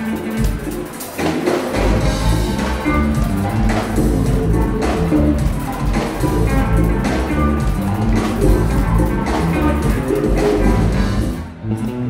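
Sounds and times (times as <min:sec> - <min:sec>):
bass: 0:00.0 - 0:12.0
drums: 0:00.0 - 0:12.0
electric guitar: 0:00.0 - 0:12.0.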